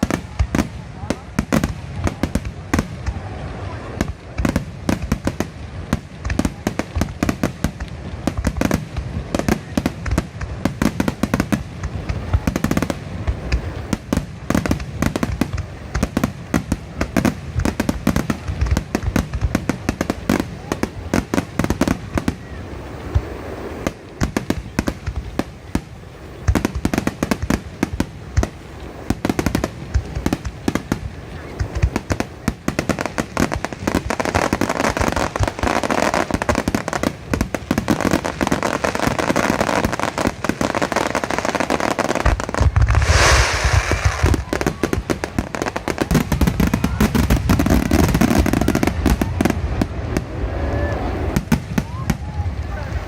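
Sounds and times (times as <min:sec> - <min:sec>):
fireworks exploding: 0:00.0 - 0:53.0.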